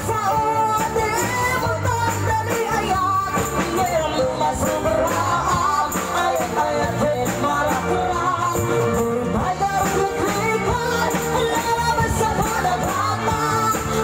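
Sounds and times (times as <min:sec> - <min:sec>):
bass: 0:00.0 - 0:14.0
guitar: 0:00.0 - 0:14.0
person singing: 0:00.0 - 0:14.0
steady drum beat: 0:00.0 - 0:14.0.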